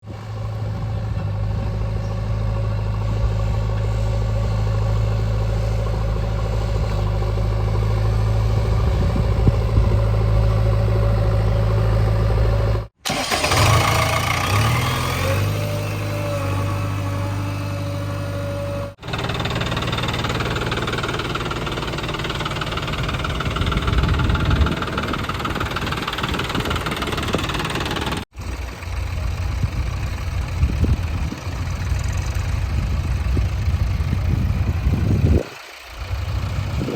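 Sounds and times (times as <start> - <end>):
backhoe diesel engine revving: 0.1 - 36.9.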